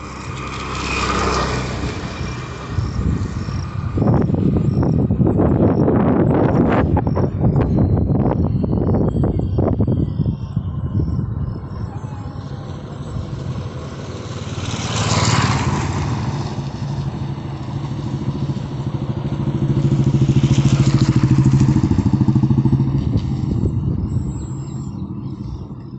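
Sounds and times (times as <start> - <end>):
vehicle engine running: 0.0 - 25.9.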